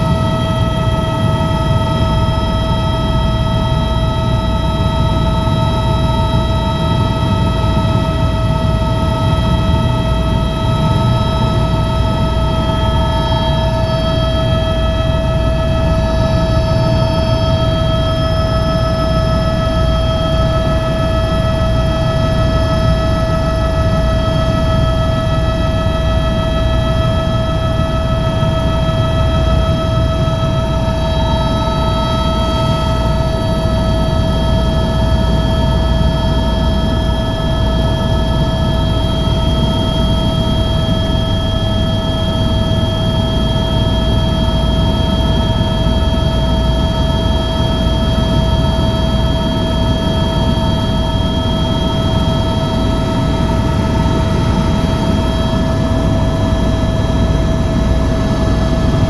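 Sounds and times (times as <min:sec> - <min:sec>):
helicopter turbine whine and rumble: 0:00.0 - 0:59.0.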